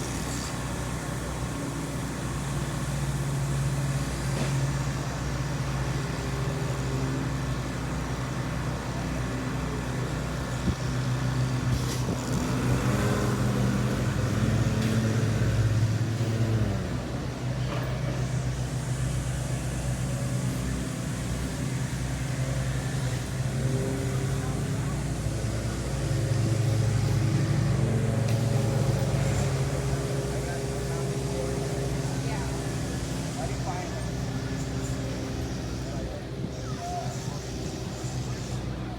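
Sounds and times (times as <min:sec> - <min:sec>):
motor engine running: 0:00.0 - 0:38.9.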